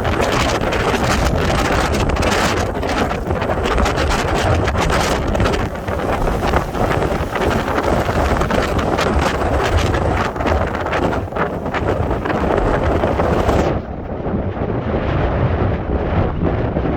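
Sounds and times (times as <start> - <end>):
stormy surf rushing: 0.0 - 16.9
wind buffeting the microphone: 0.0 - 16.9.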